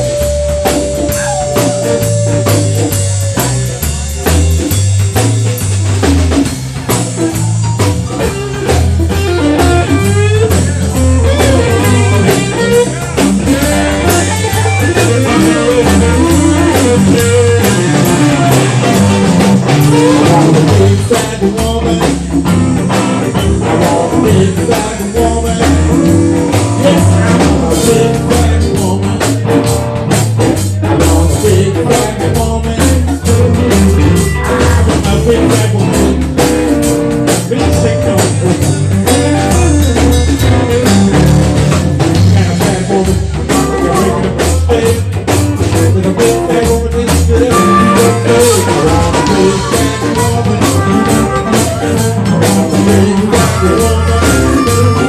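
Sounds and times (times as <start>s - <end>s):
man singing: 0.0s - 5.6s, 6.9s - 55.0s
live blues band playing: 0.0s - 55.0s.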